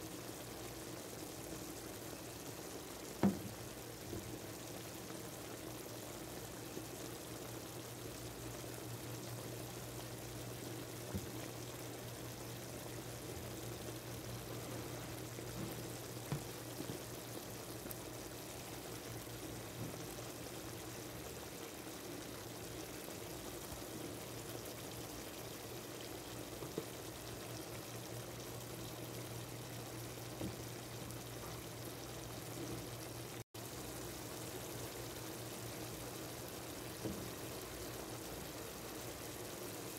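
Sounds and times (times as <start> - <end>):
meat sizzling in a pot: 0.0 - 39.9.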